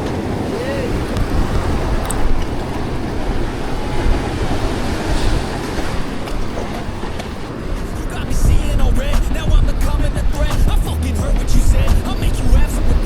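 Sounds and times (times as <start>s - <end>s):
surf hissing on beach: 0.0s - 13.0s
wind buffeting microphone: 0.0s - 13.0s.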